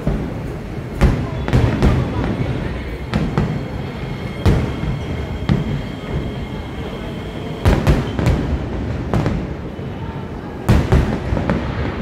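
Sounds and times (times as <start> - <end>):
distant fireworks bangs: 0.0 - 10.0, 10.6 - 12.0.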